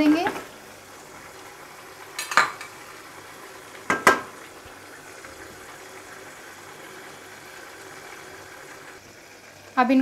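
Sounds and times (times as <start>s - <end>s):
meat frying in a wok: 0.0s - 10.0s.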